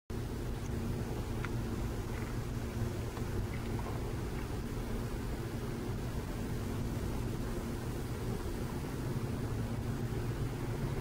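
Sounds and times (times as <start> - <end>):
low outdoor rumble: 0.1 - 11.0.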